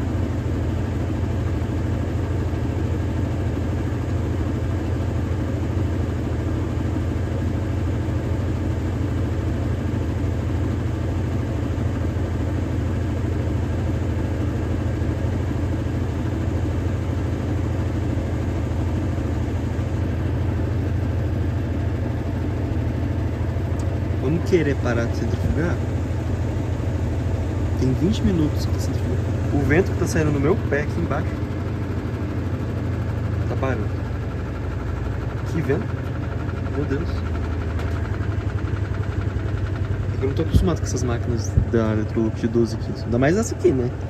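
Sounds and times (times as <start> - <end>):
washing machine spinning hum: 0.0 - 44.0.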